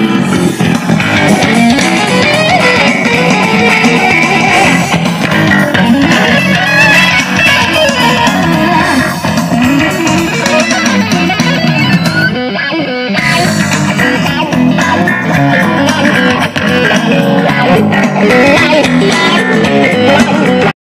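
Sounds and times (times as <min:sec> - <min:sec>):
guitar music through loudspeaker: 0:00.0 - 0:20.7.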